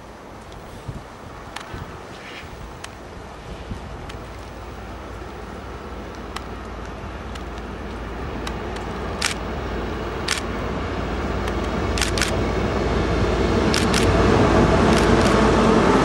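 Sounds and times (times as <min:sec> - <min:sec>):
locomotive engine hum: 0:00.0 - 0:16.0.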